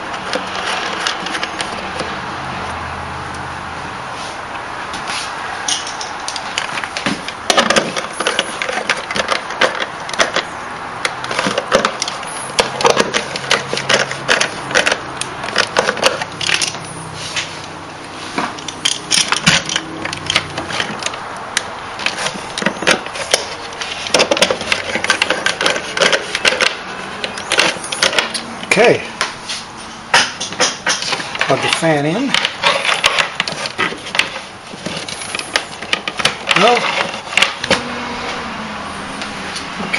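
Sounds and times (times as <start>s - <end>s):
handling clicks and rustles: 0.0s - 3.5s, 4.2s - 37.9s.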